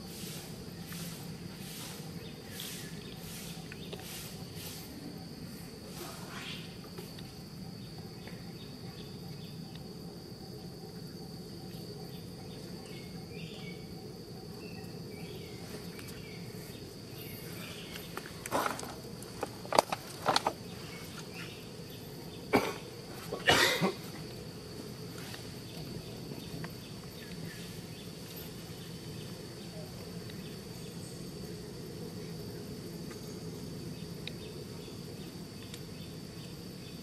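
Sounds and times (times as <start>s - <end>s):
insect drone: 0.0s - 37.0s.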